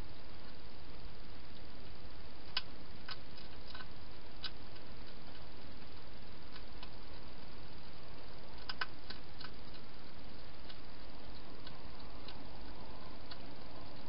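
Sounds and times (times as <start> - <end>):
steady hiss: 0.0 - 14.0
hedgehog crunching dry food: 2.5 - 14.0.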